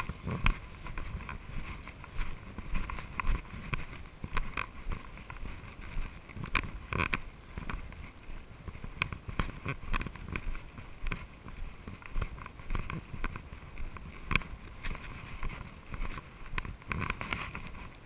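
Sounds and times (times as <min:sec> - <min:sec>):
bike rattling and clicking: 0:00.0 - 0:18.0
wind and tyre rumble: 0:00.0 - 0:18.0.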